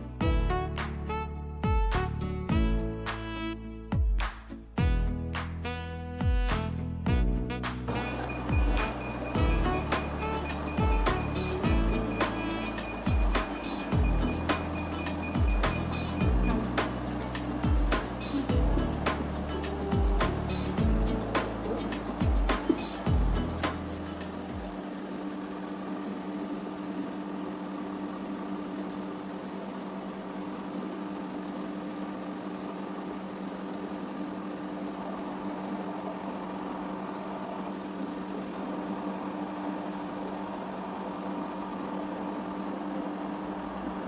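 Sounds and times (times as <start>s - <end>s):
steady machine hum: 7.9s - 44.0s.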